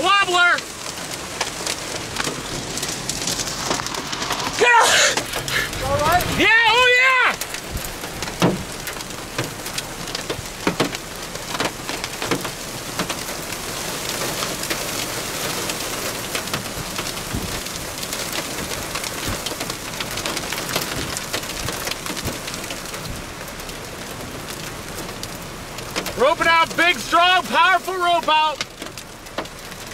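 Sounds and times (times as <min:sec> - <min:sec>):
heavy rain pouring: 0:00.0 - 0:29.9
raindrops tapping: 0:00.0 - 0:29.9.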